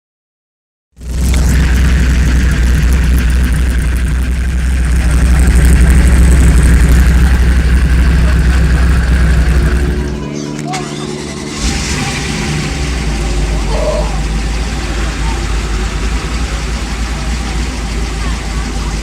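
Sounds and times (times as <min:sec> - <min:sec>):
car engine idling: 0:01.0 - 0:19.0.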